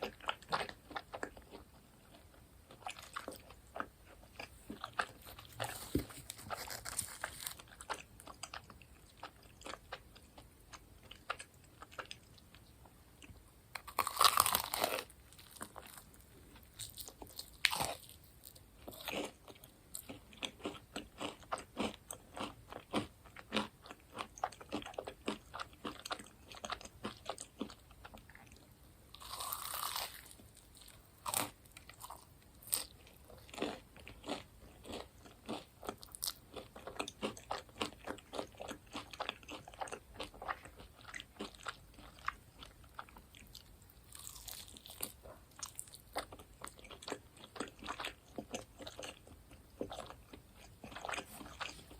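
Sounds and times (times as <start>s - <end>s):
crunching and chewing crispy food: 0.0s - 51.9s.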